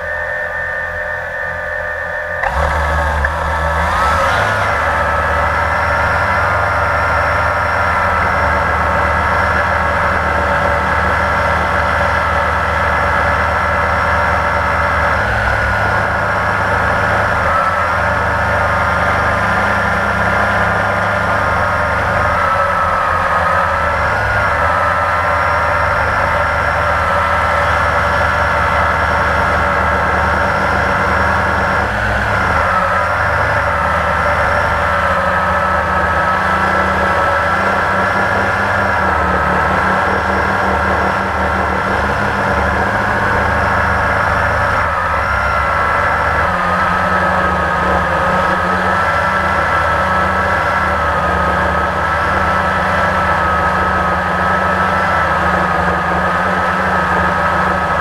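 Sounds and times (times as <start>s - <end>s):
quadcopter motors whining: 0.0s - 58.0s.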